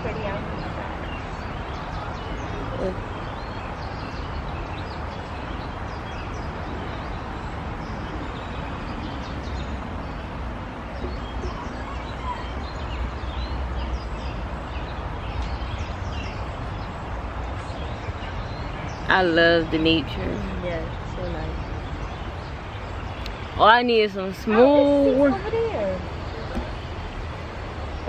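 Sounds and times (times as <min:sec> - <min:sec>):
background noise: 0:00.0 - 0:28.0.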